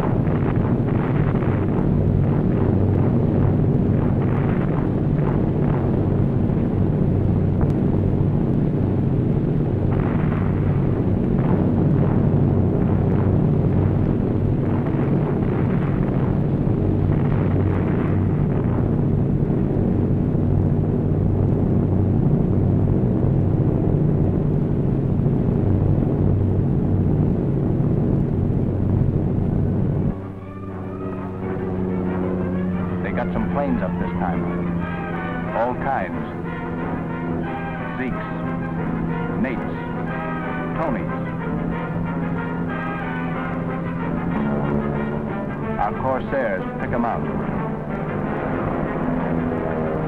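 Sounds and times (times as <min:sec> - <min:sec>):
bomb explosions rumbling: 0:00.0 - 0:23.4, 0:25.2 - 0:50.0
aircraft engines droning: 0:00.0 - 0:50.0.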